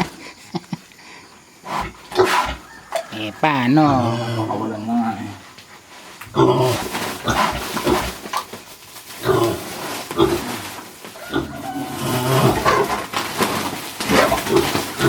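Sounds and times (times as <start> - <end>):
pigs calling: 1.6 - 15.0.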